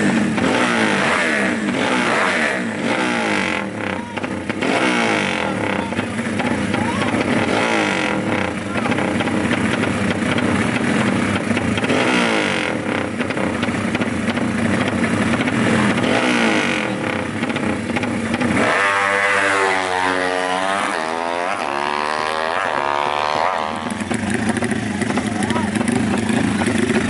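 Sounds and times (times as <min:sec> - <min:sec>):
motorcycles accelerating away: 0:00.0 - 0:27.0
motorcycles revving: 0:00.0 - 0:27.0.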